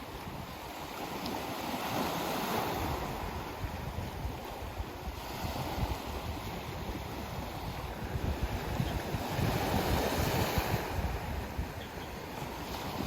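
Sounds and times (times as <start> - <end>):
sea waves washing onto shore: 0.0 - 13.0
wind rumbling on microphone: 0.0 - 13.0.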